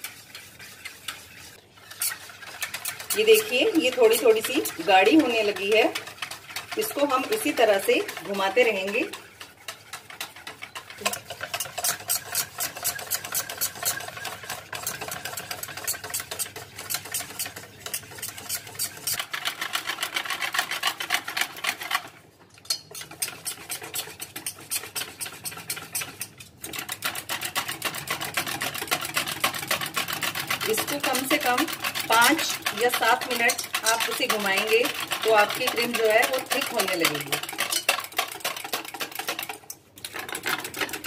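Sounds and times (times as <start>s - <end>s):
fork whisking cream in steel bowl: 0.0s - 41.0s.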